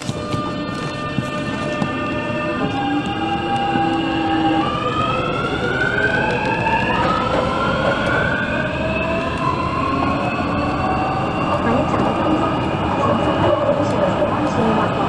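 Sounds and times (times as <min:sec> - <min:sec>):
train motors whining: 0:00.0 - 0:15.0
train running rumble: 0:00.0 - 0:15.0.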